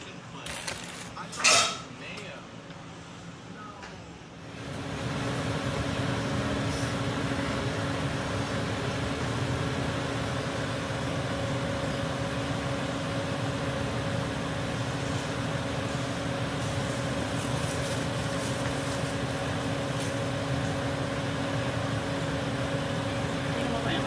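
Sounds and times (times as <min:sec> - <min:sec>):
fan motor whirring: 0:00.0 - 0:03.6, 0:04.2 - 0:24.0.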